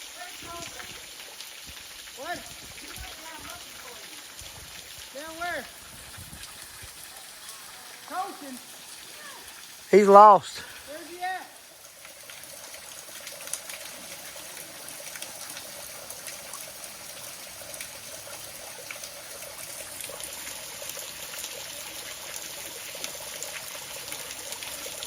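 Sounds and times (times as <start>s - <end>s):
creek water over rocks: 0.0s - 25.0s.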